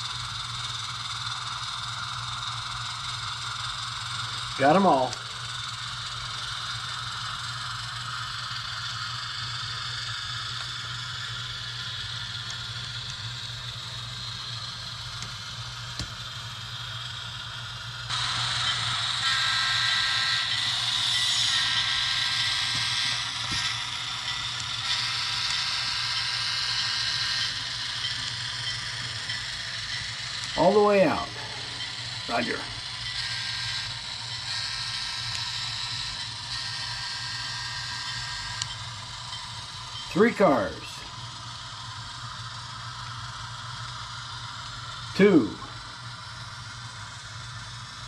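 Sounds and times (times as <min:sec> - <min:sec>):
model train motor whining: 0:00.0 - 0:48.0.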